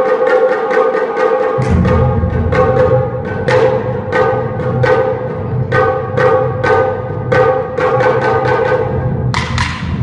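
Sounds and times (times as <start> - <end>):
taiko drum strokes: 0.0 - 10.0.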